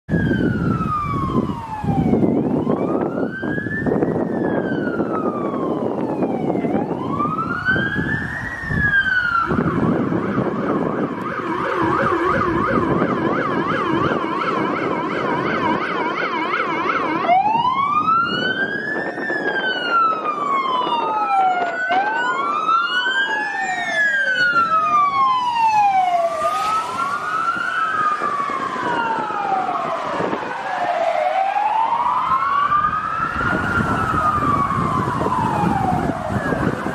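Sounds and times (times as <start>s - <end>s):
deep low-frequency siren tone: 0.1s - 36.9s
siren fast yelp: 0.1s - 36.9s
sirens wailing: 0.1s - 36.9s.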